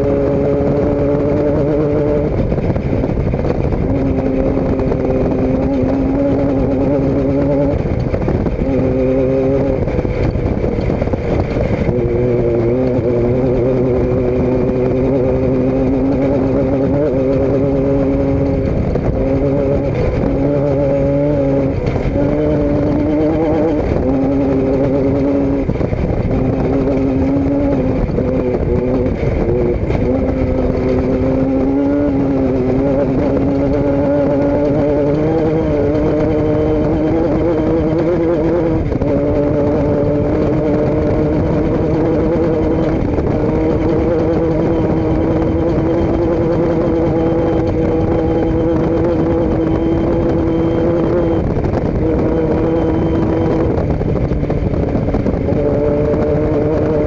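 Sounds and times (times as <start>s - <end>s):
vehicle engine running steadily: 0.0s - 57.0s.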